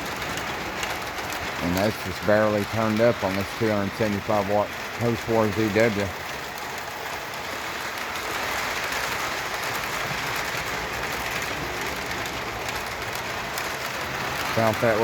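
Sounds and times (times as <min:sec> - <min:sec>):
model train motor and wheels: 0:00.0 - 0:15.0.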